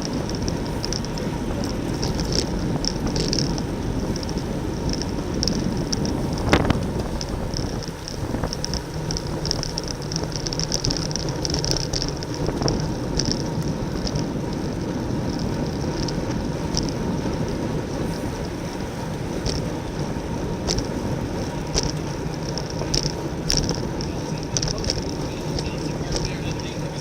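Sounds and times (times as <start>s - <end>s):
bicycle road noise: 0.0s - 27.0s
wind rushing on microphone: 0.0s - 27.0s.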